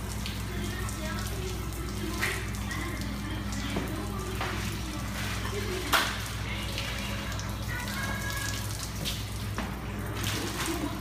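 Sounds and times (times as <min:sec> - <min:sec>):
low machine hum: 0:00.0 - 0:11.0
running water: 0:00.0 - 0:11.0.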